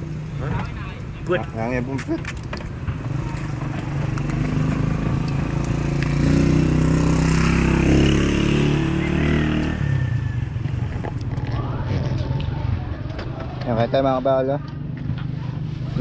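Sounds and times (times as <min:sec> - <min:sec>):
motorcycle engine passing by: 0:02.8 - 0:16.0.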